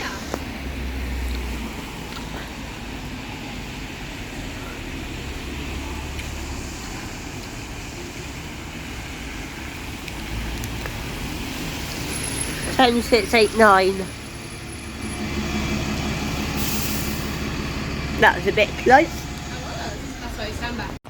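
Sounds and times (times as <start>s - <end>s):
bus rumbling: 0.0s - 21.0s
road traffic noise: 0.0s - 21.0s.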